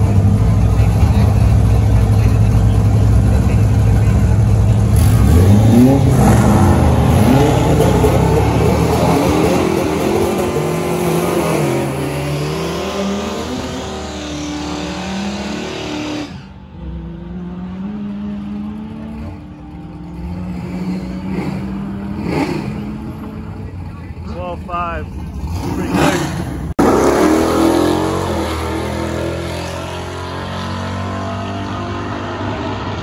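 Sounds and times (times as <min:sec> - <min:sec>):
car accelerating at full throttle: 0:00.0 - 0:33.0.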